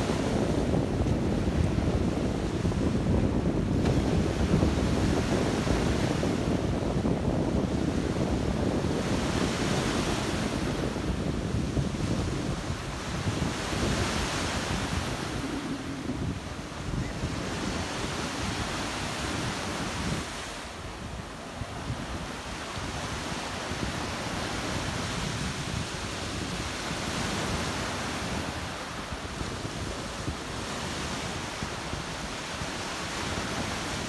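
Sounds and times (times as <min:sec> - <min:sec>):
surf breaking on sandy beach: 0:00.0 - 0:34.0
wind rumble on microphone: 0:00.0 - 0:34.0.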